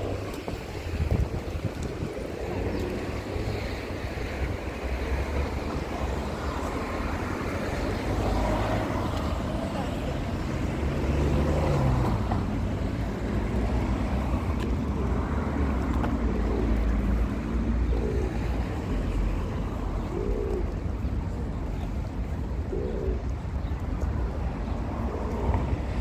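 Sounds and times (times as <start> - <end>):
car traffic passing: 0.0 - 26.0.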